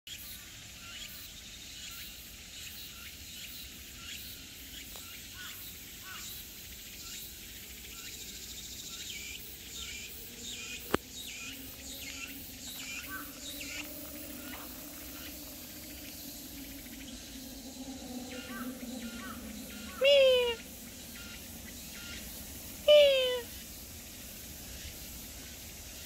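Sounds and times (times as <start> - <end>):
insects droning: 0.2 - 26.0
small birds chirping: 3.4 - 26.0.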